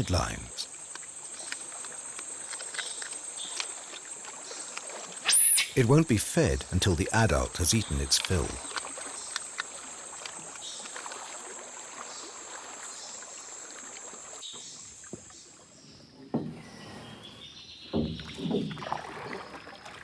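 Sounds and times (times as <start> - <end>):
water splashing and lapping: 0.0 - 5.2, 6.6 - 15.4, 18.0 - 20.0.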